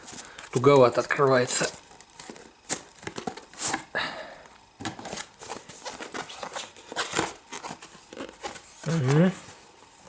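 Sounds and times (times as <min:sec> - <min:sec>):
packaging rustling and crinkling: 0:00.0 - 0:04.0, 0:04.7 - 0:10.0.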